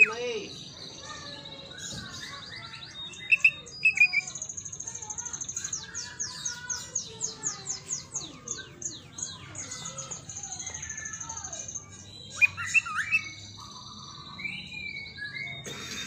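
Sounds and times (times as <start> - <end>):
bird singing varied song: 0.0 - 16.0.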